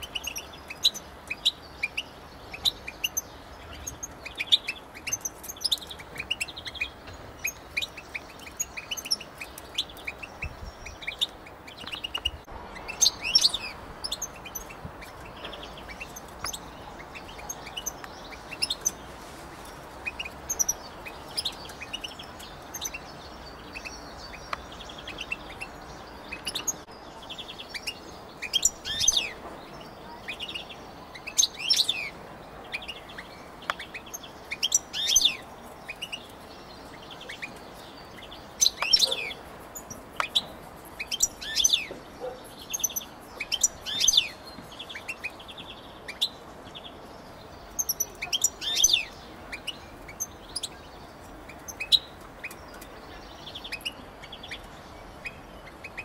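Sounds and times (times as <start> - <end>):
goldfinch twittering and trills: 0.0 - 19.0, 19.6 - 56.0.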